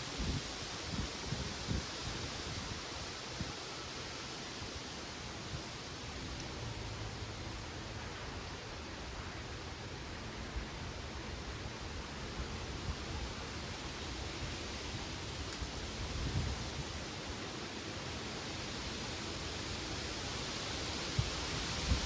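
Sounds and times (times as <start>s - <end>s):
low wind gust: 0.0s - 22.0s
wind rustling leaves: 0.0s - 22.0s.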